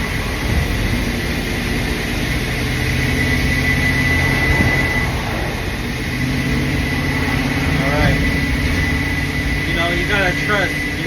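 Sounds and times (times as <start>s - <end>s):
thin high whine: 0.0s - 11.0s
truck engine drone: 0.0s - 11.0s.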